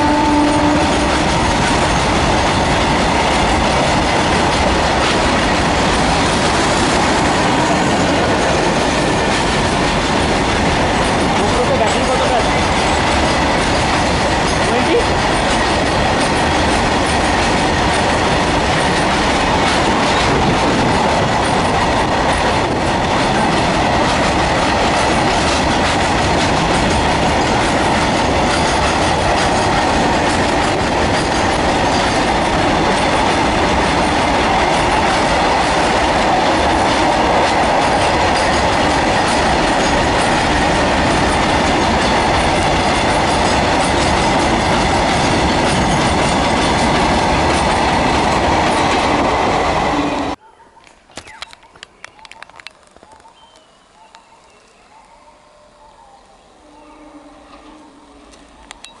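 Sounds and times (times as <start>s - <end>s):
freight train wheels clattering: 0.0s - 50.4s.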